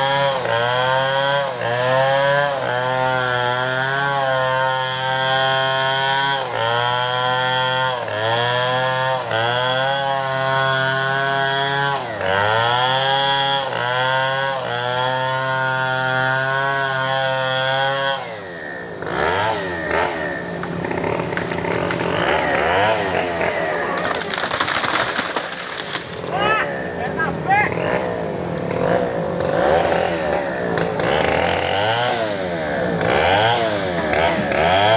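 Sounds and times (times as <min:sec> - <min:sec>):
chainsaw cutting at high revs: 0:00.0 - 0:34.9.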